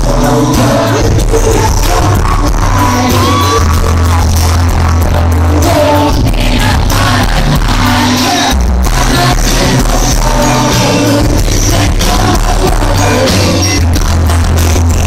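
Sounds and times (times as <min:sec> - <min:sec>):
live pop band playing: 0:00.0 - 0:15.0
person singing: 0:00.0 - 0:15.0.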